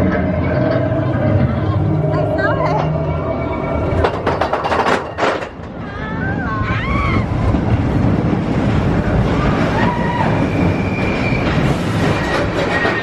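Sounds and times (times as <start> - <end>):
roller coaster rumbling on track: 0.0 - 13.0
wind on microphone: 1.2 - 13.0.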